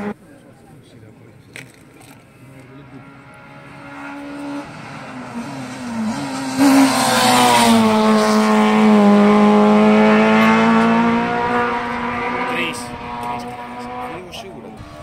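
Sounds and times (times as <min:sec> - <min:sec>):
race car engine passing by: 0:02.3 - 0:15.0.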